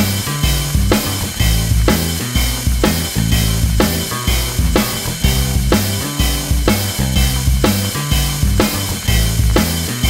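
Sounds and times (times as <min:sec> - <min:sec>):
held bass line: 0:00.0 - 0:10.0
steady drum beat: 0:00.0 - 0:10.0.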